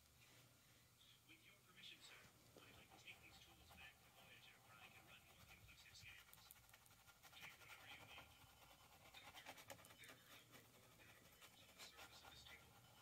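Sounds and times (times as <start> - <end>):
paintbrush scratching on canvas: 2.6 - 13.0.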